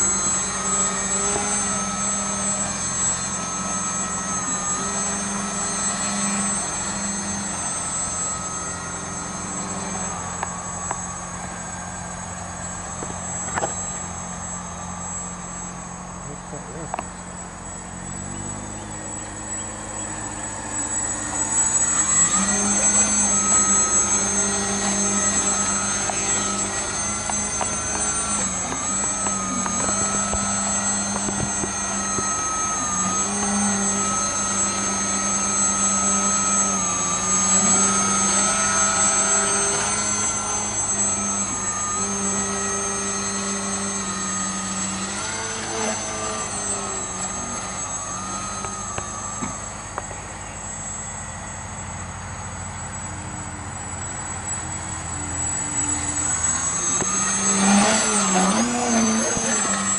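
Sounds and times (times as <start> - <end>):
rc plane motor buzzing: 0.0 - 59.9.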